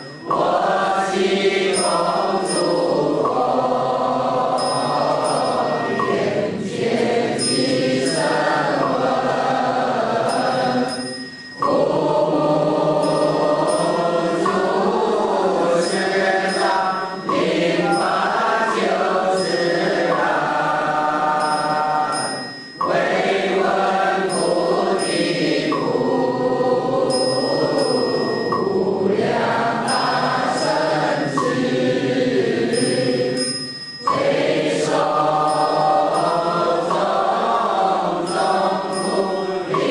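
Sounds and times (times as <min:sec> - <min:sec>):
group chanting: 0:00.0 - 0:39.9.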